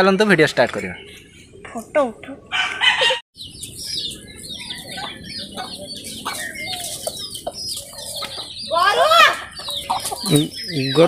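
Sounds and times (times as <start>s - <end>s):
chickens clucking: 0.8s - 11.0s.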